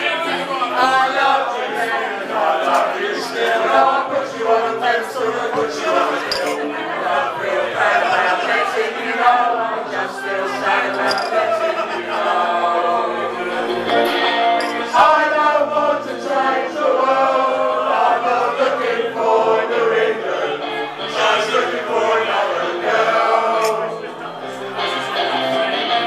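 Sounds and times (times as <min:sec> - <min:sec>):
crowd singing along: 0:00.0 - 0:26.0.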